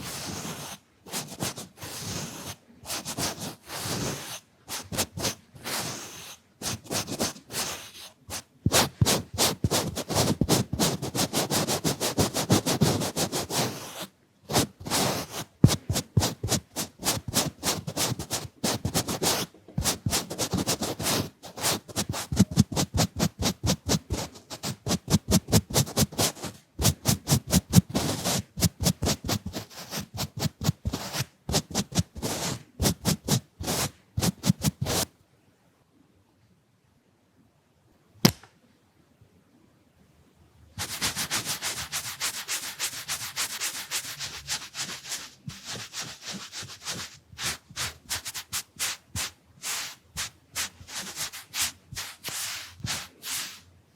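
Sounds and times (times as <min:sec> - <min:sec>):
brush strokes: 0:00.0 - 0:35.1, 0:40.8 - 0:53.7.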